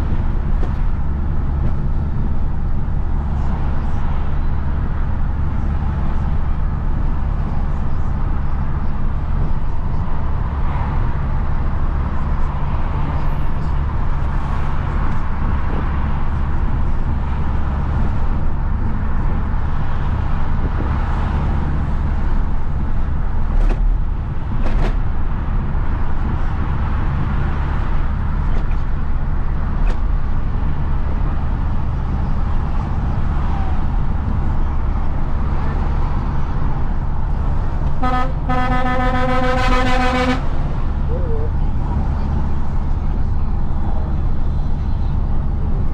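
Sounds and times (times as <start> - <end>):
diesel truck engine droning: 0.0 - 45.9
road noise: 0.0 - 45.9.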